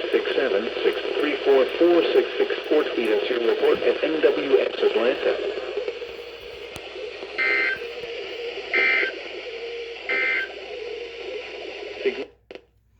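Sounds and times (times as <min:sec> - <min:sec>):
radio static: 0:00.0 - 0:12.4.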